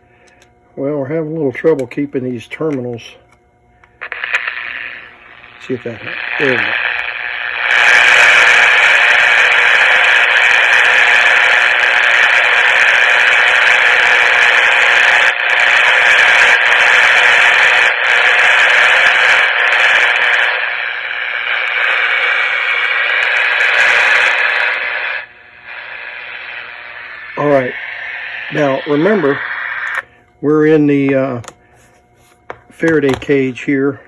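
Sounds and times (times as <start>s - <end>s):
radio static hiss: 0.8s - 34.0s.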